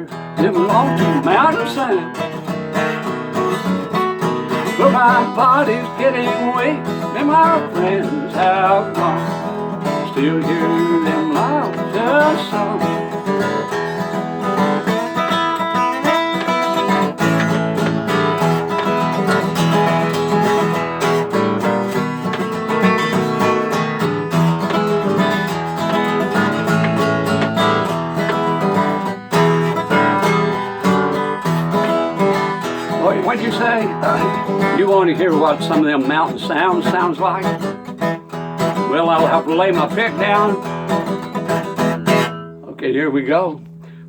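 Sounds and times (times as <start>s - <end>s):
country guitar picking: 0.0s - 44.0s.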